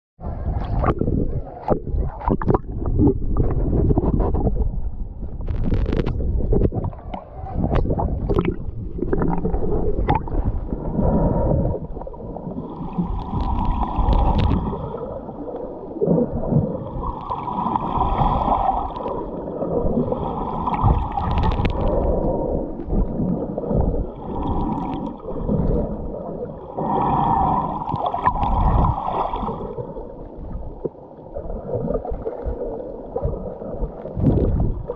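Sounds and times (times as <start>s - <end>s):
gurgling exhaled bubbles: 0.2s - 34.9s.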